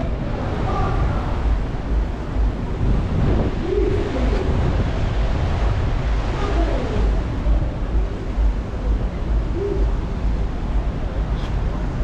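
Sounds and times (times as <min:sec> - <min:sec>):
rush of sea and wake: 0:00.0 - 0:12.0
wind buffeting microphone: 0:00.0 - 0:12.0.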